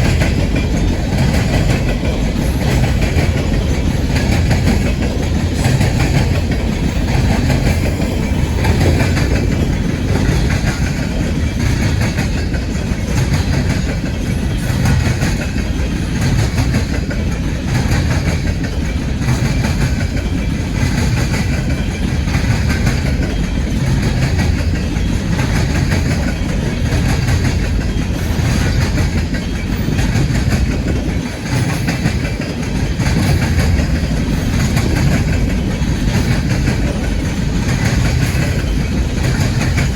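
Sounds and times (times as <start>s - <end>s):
train cars rumbling past: 0.0s - 39.9s
wheels clacking over rails: 0.0s - 39.9s.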